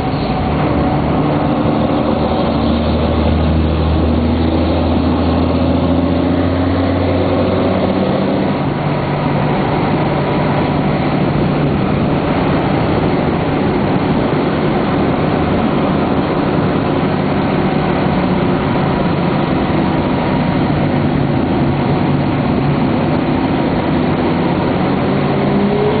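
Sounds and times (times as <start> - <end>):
diesel bus engine droning: 0.0 - 26.0.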